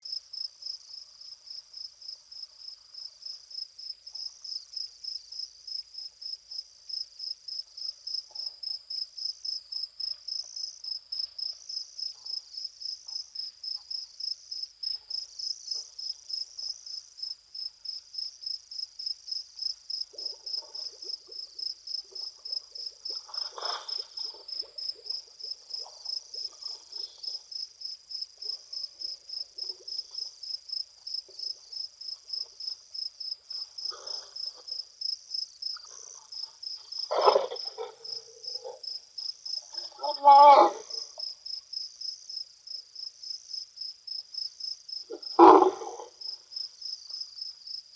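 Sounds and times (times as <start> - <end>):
cricket chirping: 0.0 - 47.9.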